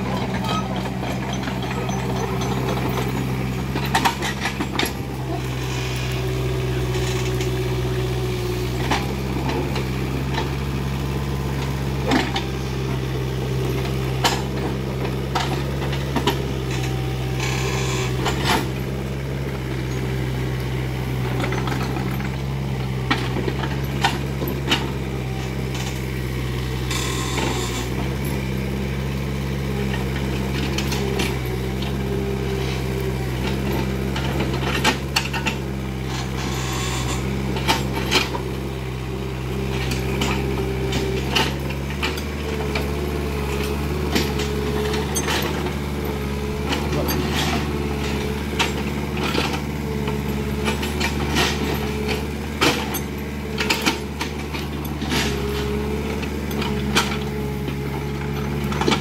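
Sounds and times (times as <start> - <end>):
diesel excavator engine running: 0.0 - 59.0.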